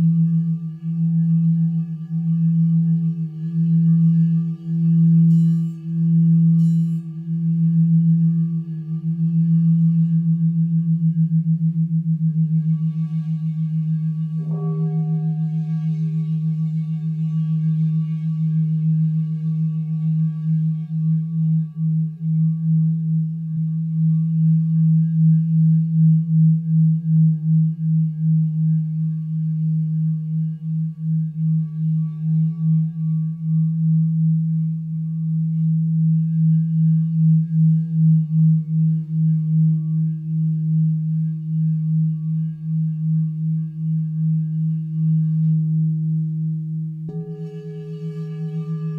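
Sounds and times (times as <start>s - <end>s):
singing bowls ringing: 0.0s - 45.9s, 47.1s - 48.9s.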